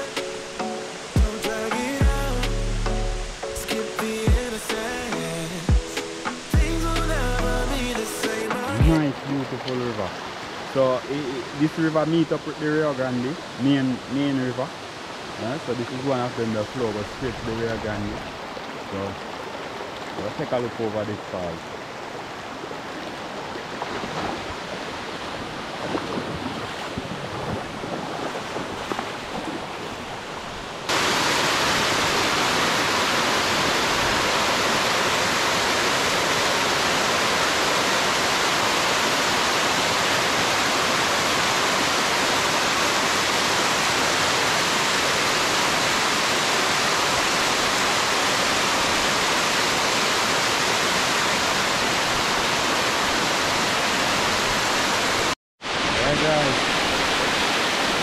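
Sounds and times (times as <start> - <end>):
waterfall rushing: 0.0 - 23.7, 30.8 - 58.0.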